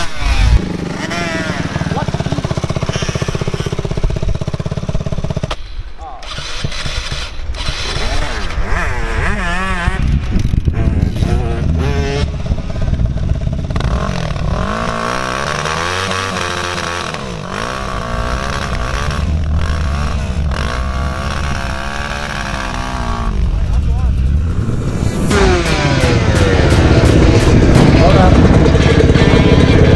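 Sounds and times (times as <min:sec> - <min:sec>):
dirt bike engine revving: 0:00.0 - 0:05.6, 0:06.2 - 0:29.9.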